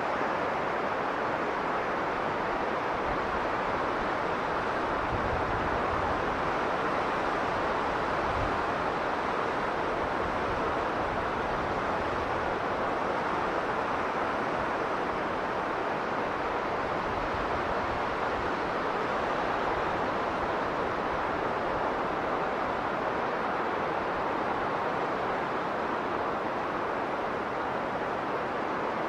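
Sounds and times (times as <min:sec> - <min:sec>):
strong blizzard wind: 0:00.0 - 0:29.0.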